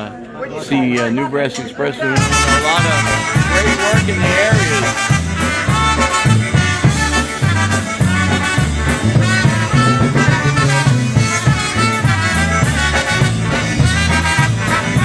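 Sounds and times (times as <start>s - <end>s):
polka band playing: 2.2s - 15.0s
two-beat bass line: 2.2s - 15.0s.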